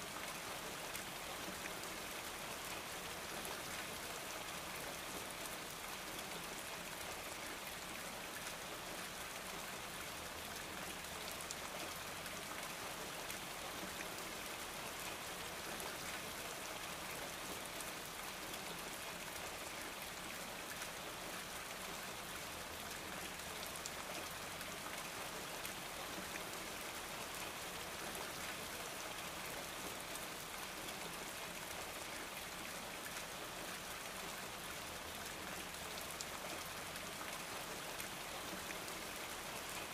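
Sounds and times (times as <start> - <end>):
steady rain-like hiss: 0.0 - 39.9.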